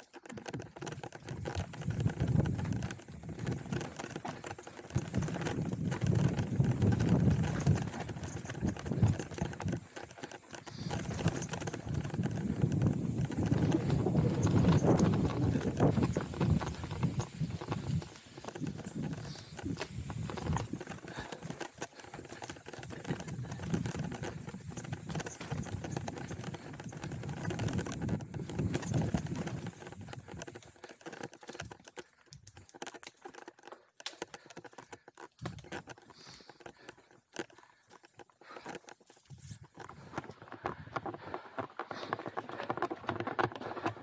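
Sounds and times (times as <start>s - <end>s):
bike clattering over roots: 0.0s - 44.0s.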